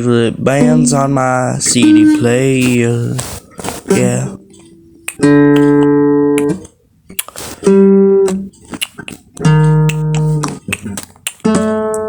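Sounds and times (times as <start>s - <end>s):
guitar chords: 0.0s - 6.8s, 7.6s - 12.0s.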